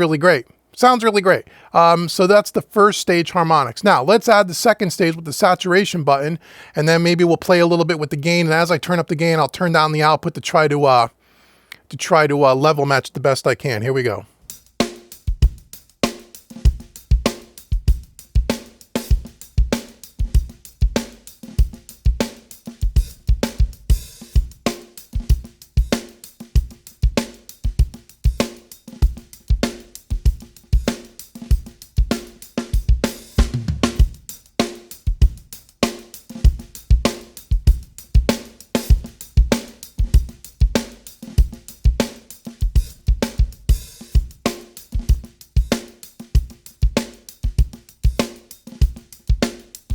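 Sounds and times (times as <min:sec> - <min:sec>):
saturated drum kit groove: 0:00.0 - 0:11.1, 0:11.8 - 0:49.9.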